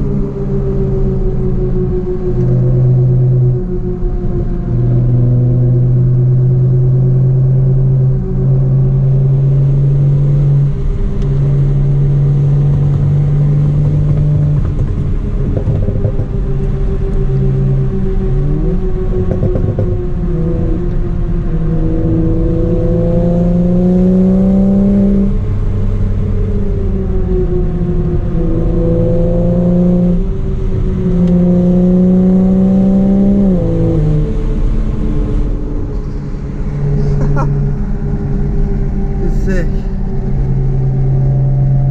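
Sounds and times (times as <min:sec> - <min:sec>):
car exhaust droning: 0:00.0 - 0:41.9.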